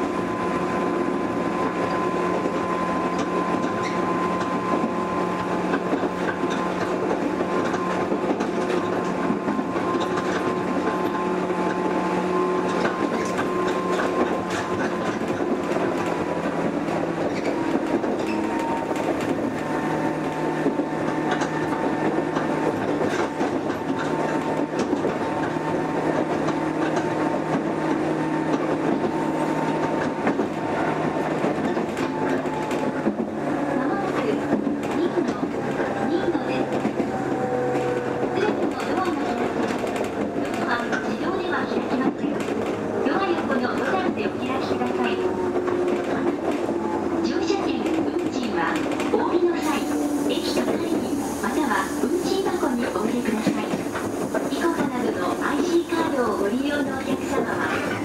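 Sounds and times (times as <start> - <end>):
rail joints clicking: 0.0 - 58.0
train motor hum and whine: 0.0 - 58.0
wheel and track noise: 0.0 - 58.0.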